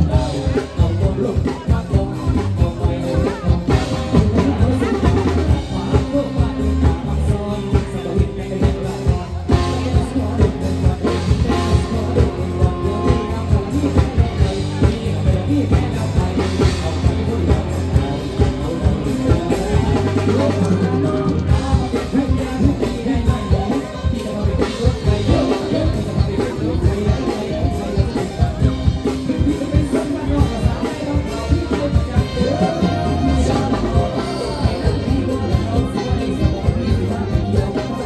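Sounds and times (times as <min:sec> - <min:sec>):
bass: 0:00.0 - 0:38.0
men singing into microphones: 0:00.0 - 0:38.0
steady drum beat: 0:00.0 - 0:38.0.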